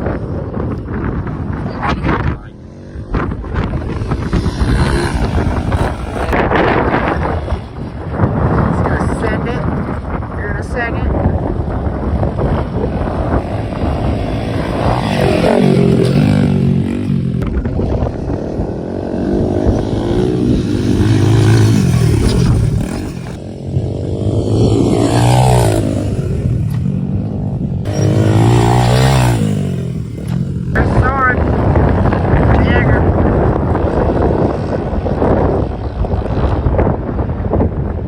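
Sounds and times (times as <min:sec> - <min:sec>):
pit bike engine revving: 0:01.5 - 0:36.8.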